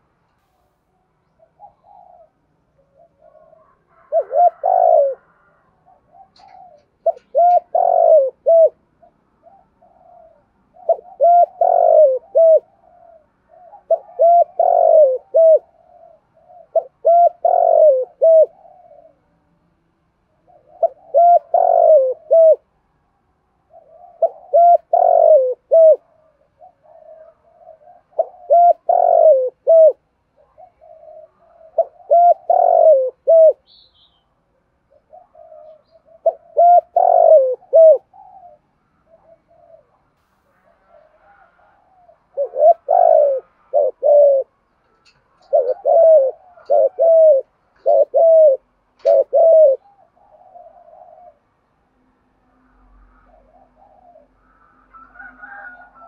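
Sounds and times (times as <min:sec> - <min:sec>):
dove cooing: 0:01.3 - 0:19.4, 0:20.3 - 0:22.8, 0:23.6 - 0:33.8, 0:34.6 - 0:51.6, 0:52.7 - 0:56.0.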